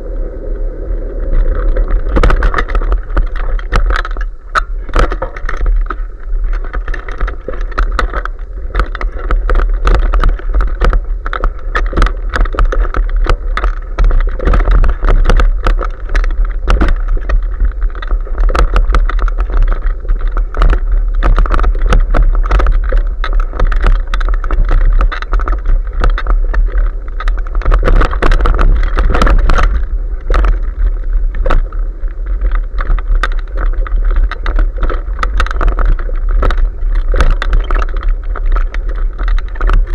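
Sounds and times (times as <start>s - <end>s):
wind on microphone: 0.0s - 39.9s
bike clattering over bumps: 1.3s - 39.9s.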